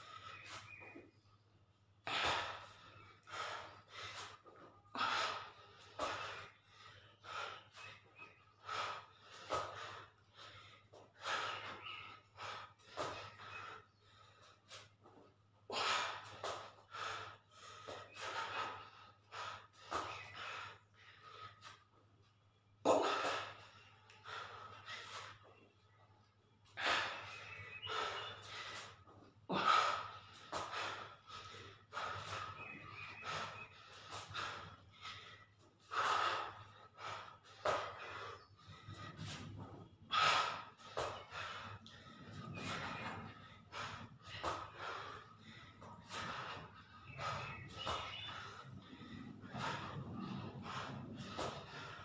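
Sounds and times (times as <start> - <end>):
man breathing hard: 1.7 - 52.0.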